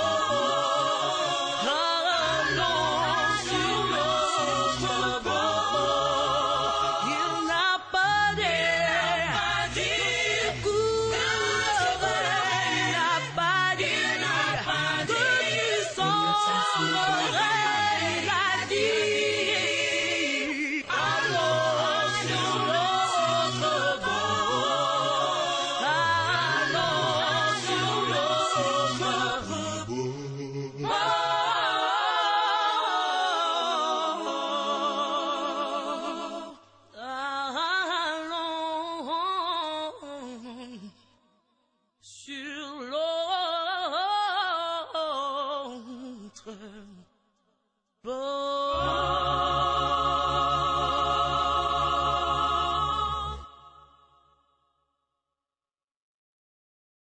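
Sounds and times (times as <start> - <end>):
voices singing religious song: 0.0 - 40.9, 48.1 - 54.4.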